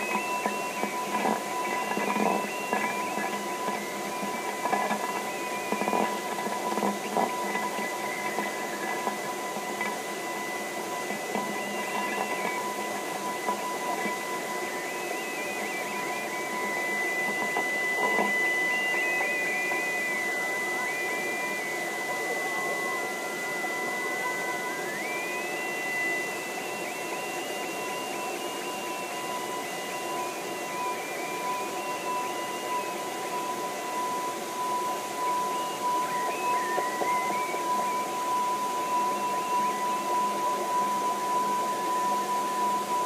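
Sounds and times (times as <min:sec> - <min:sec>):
radio hiss: 0:00.0 - 0:43.0
wavering whistle: 0:00.0 - 0:43.0.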